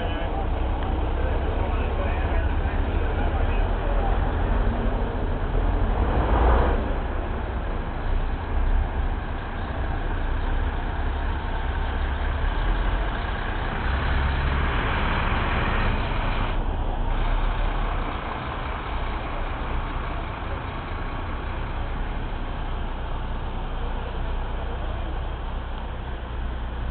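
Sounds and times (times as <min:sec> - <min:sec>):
truck diesel engine rumbling: 0:00.0 - 0:26.9.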